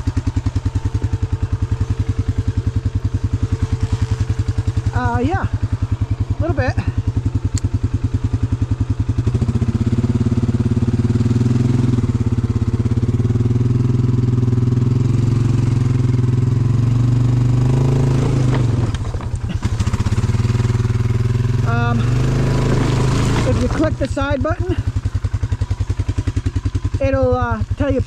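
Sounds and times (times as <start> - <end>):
quad bike engine revving: 0.0 - 28.0.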